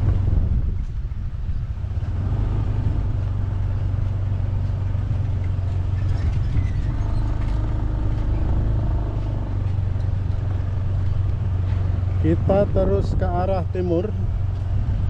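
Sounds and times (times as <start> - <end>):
higher engine tone: 0.0 - 15.0
motorcycle engine low drone: 0.0 - 15.0.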